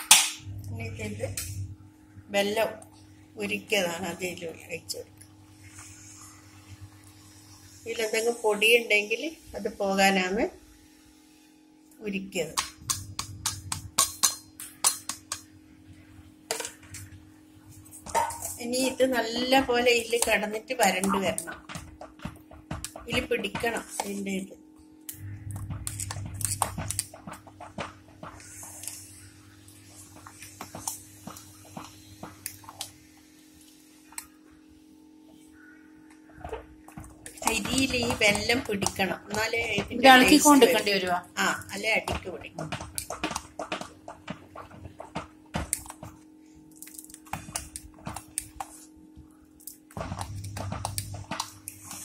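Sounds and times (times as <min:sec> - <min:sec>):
low hum: 0:00.0 - 0:52.0
thick mixture bubbling: 0:00.1 - 0:11.4, 0:12.3 - 0:52.0.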